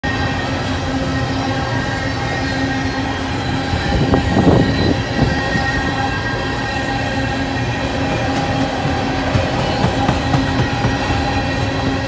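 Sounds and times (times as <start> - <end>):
train wheels rumbling on rail: 0.0 - 12.0
train rattle: 0.3 - 12.0.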